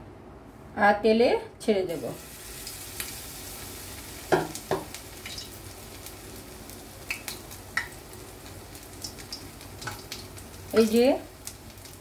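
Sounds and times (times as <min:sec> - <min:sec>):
batter frying in hot oil: 0:02.0 - 0:12.0.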